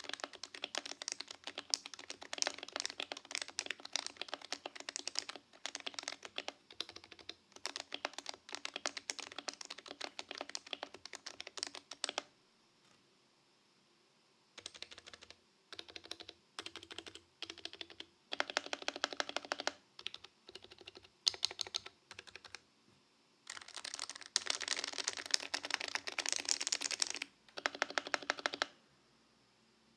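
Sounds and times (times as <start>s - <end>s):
soft keyboard keystrokes: 0.0s - 12.3s, 14.6s - 22.6s, 23.5s - 28.8s.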